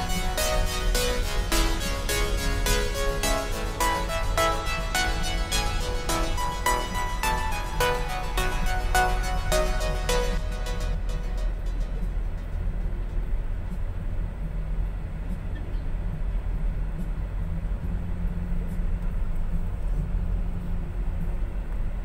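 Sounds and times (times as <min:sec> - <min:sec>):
faint wavering hum: 0:00.0 - 0:22.0
vehicle engine and road noise: 0:00.0 - 0:22.0.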